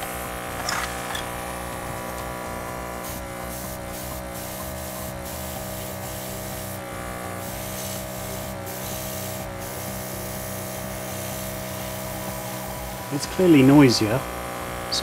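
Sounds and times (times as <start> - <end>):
airbrush air hisses: 0.0 - 15.0
small compressor motor whirring: 0.0 - 15.0.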